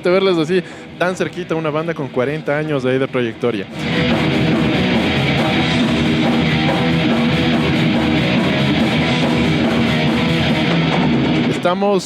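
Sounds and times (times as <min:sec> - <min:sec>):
heavy metal electric guitar: 0:00.0 - 0:12.0.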